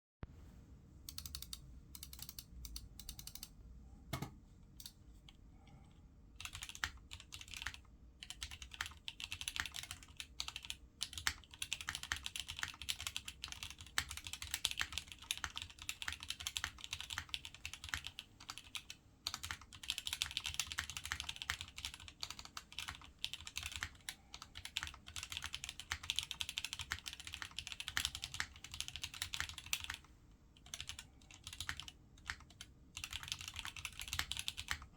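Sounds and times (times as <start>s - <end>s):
mechanical keyboard typing: 1.1s - 3.5s, 6.4s - 34.9s.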